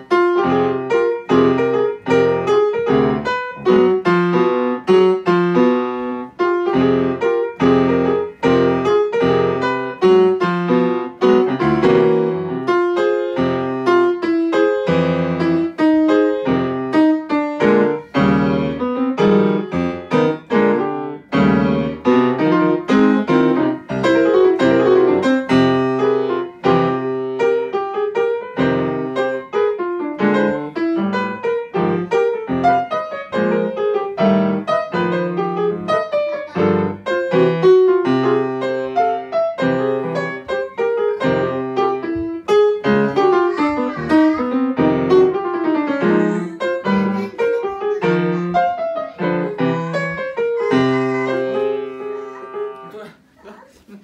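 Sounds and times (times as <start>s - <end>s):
solo jazz piano: 0.0s - 54.0s.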